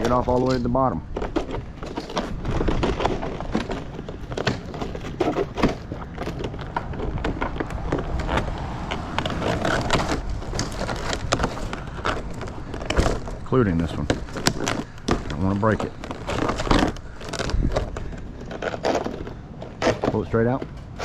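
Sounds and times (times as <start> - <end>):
vinyl siding clicks and rattles: 0.0 - 21.0.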